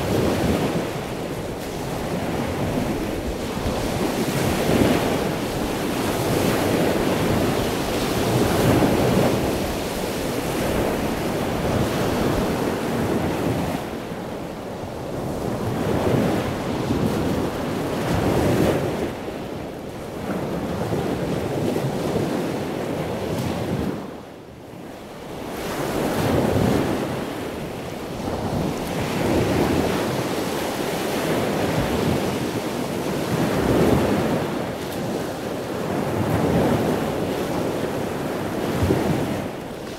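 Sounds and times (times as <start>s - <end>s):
heavy ocean surf: 0.0s - 39.9s
wind buffeting microphone: 0.0s - 39.9s.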